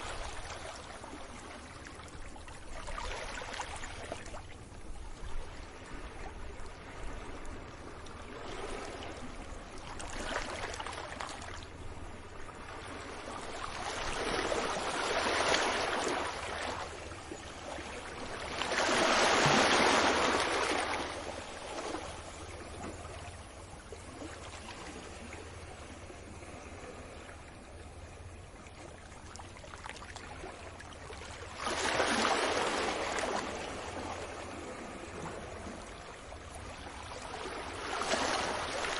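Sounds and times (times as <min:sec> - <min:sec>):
small waves breaking on beach: 0:00.0 - 0:38.9.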